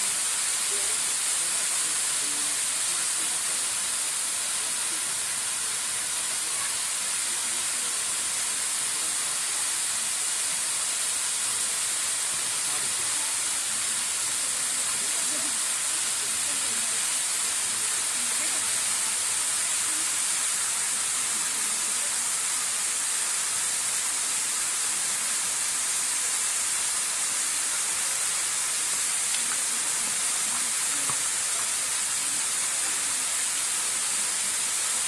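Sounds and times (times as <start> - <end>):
waterfall hiss: 0.0 - 35.0.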